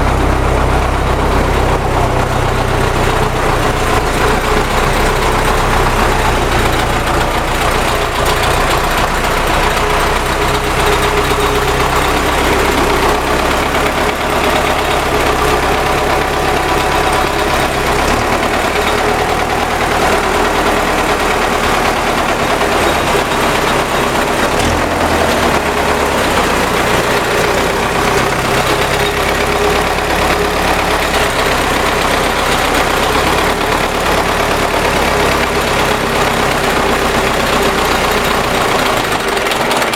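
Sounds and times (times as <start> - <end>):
engine knock: 0.0 - 39.9
tractor diesel engine idling: 0.0 - 39.9.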